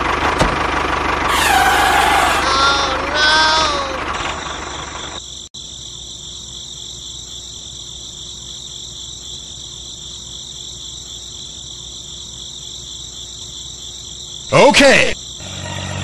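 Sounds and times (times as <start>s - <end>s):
crickets chirping: 1.3s - 16.0s.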